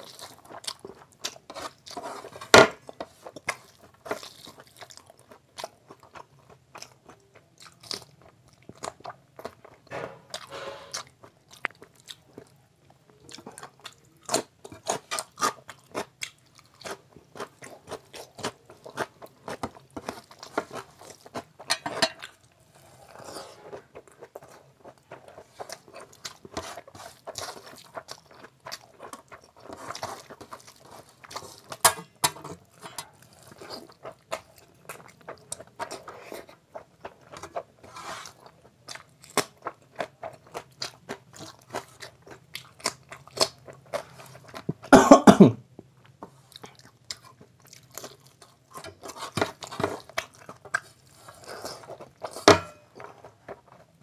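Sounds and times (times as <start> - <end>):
chewing and mouth smacks: 3.0 - 22.5, 23.8 - 44.9, 45.7 - 54.0.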